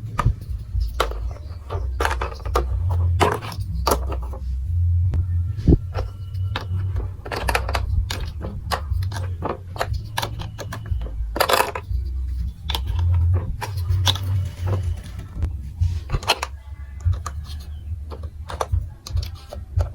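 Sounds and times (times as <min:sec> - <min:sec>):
plastic blocks clicking and clattering: 0:00.0 - 0:04.4, 0:05.8 - 0:19.9
low rumble: 0:00.0 - 0:19.9.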